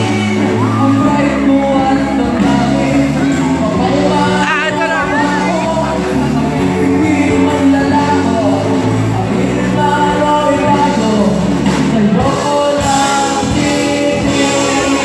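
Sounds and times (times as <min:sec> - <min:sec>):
drums: 0:00.0 - 0:15.0
electric bass: 0:00.0 - 0:15.0
electric guitar: 0:00.0 - 0:15.0
lead vocal singing: 0:00.0 - 0:15.0.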